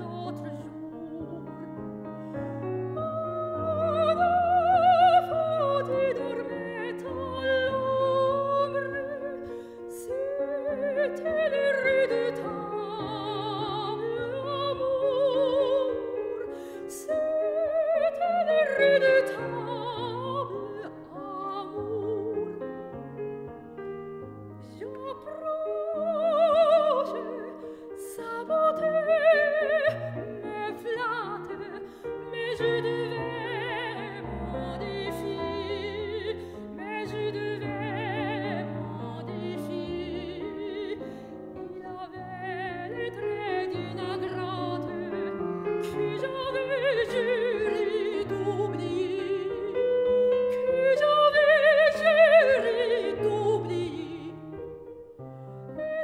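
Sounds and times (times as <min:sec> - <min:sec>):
piano accompaniment: 0:00.0 - 0:56.0.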